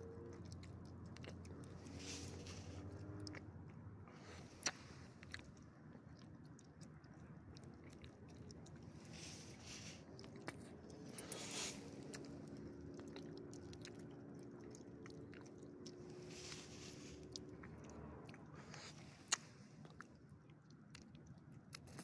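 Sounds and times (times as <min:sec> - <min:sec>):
dog chewing and licking: 0:00.0 - 0:22.0.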